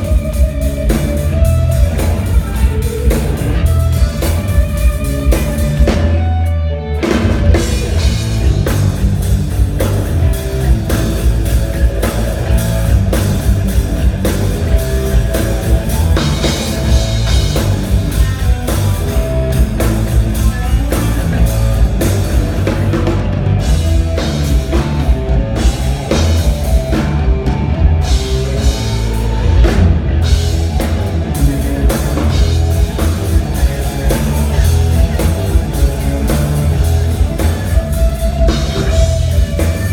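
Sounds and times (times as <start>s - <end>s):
rock music with electric guitar: 0.0s - 39.9s.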